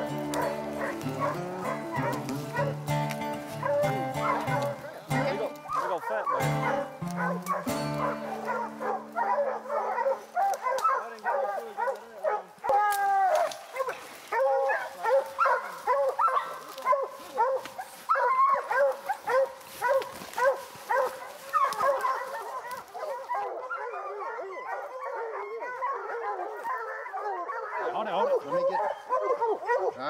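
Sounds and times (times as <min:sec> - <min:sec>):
hounds barking and baying: 0:00.0 - 0:30.0.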